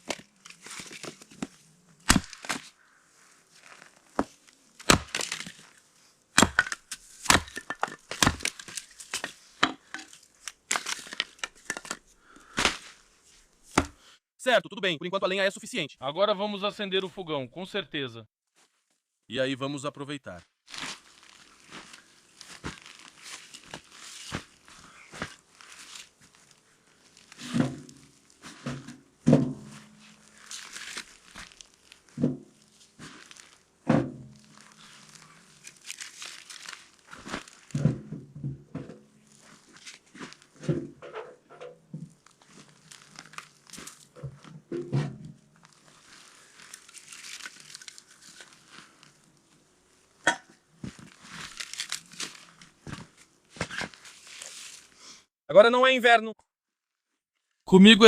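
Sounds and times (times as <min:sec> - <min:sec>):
rustling and crinkling: 0:00.0 - 0:13.8, 0:18.5 - 0:19.1, 0:20.6 - 0:55.2.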